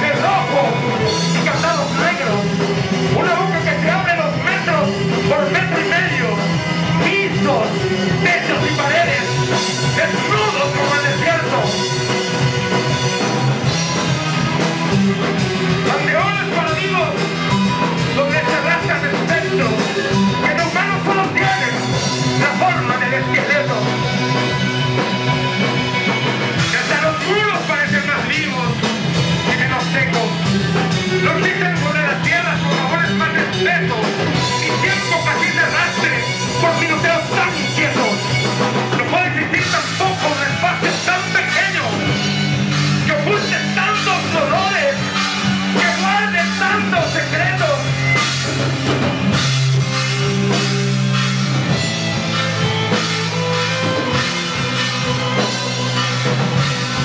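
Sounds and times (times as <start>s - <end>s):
drum kit playing: 0.0s - 57.0s
electric guitar: 0.0s - 57.0s.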